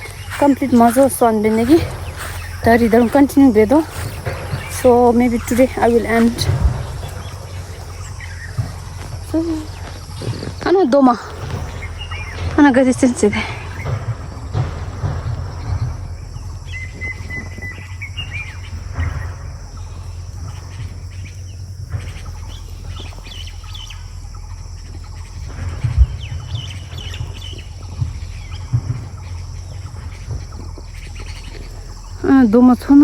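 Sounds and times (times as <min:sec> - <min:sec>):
birds chirping: 0:00.0 - 0:33.0
steady low hum: 0:00.0 - 0:33.0.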